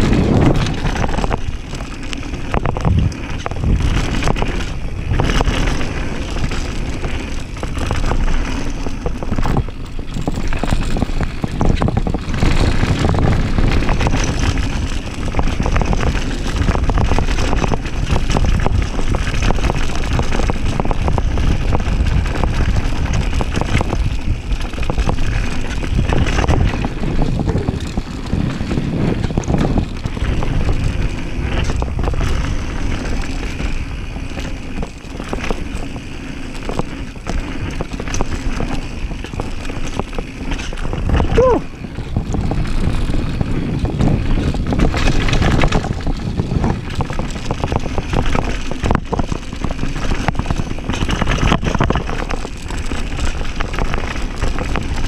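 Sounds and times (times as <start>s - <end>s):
bike chain rattling: 0.0s - 55.0s
tyres on loose dirt: 0.0s - 55.0s
wind rushing over microphone: 0.0s - 55.0s.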